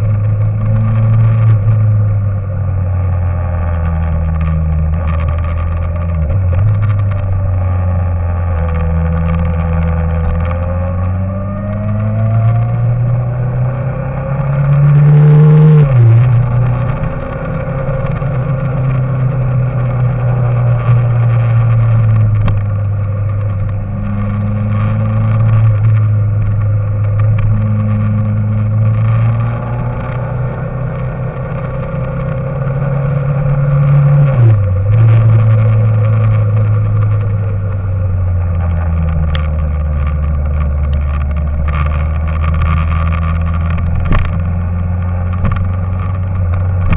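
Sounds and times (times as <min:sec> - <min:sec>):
vehicle engine running under load: 0:00.0 - 0:46.9.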